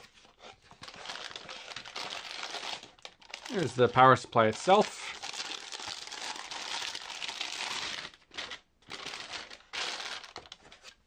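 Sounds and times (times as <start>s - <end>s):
plastic bag crinkling: 0.8s - 11.0s.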